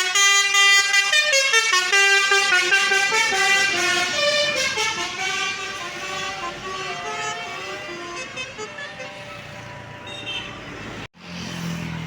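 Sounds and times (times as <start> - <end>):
musical bus air horn: 0.0 - 10.7
traffic noise: 0.0 - 12.0.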